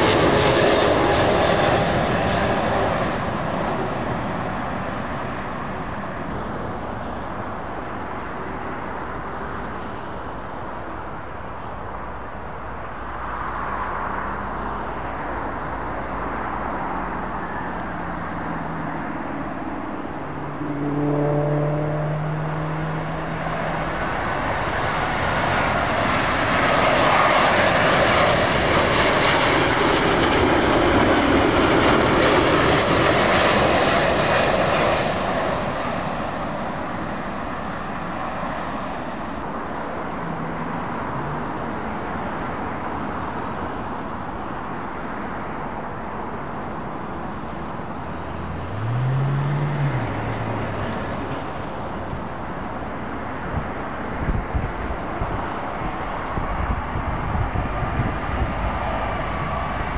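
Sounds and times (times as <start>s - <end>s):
jet plane passing overhead: 0.0s - 59.9s.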